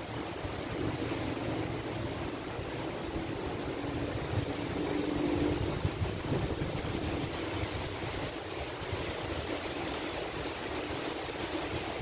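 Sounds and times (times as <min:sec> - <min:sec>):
strong wind through trees: 0:00.0 - 0:12.0
wind buffeting microphone: 0:00.0 - 0:12.0.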